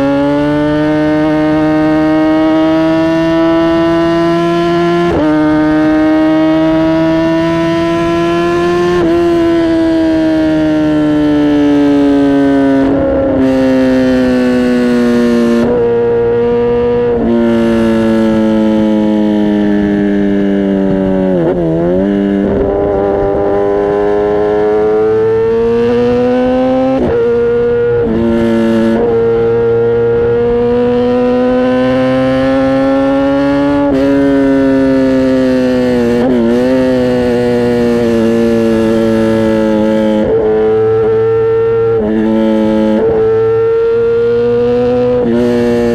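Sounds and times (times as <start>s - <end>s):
motorcycle exhaust while riding: 0.0s - 45.9s.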